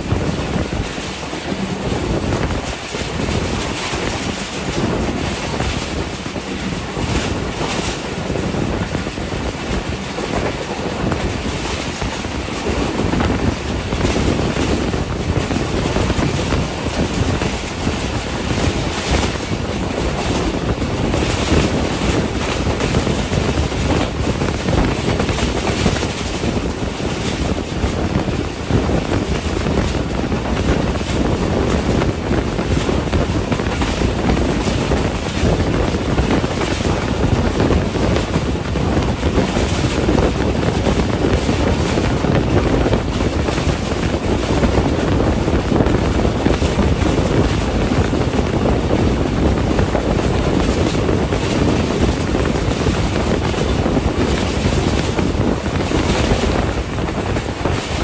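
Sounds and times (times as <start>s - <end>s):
train rumbling on track: 0.0s - 58.0s
wind rushing over microphone: 0.0s - 58.0s.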